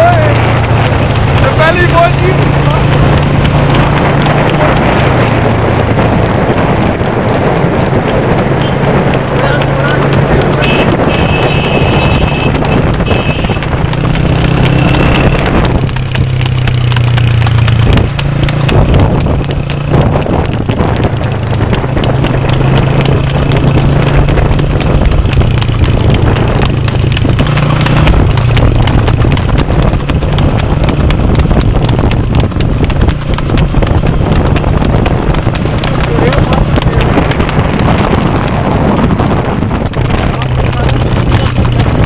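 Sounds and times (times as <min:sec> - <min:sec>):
horse hooves clip-clopping on asphalt: 0:00.0 - 0:42.0.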